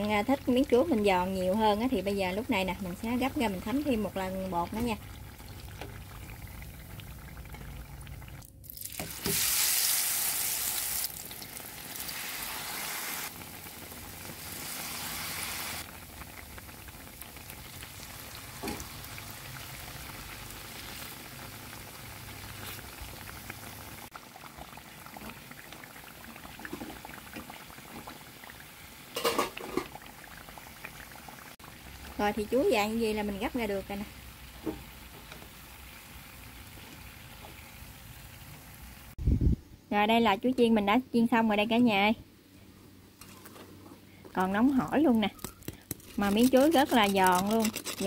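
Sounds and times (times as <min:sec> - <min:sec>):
food deep-frying in oil: 0:00.0 - 0:39.2, 0:44.3 - 0:48.0.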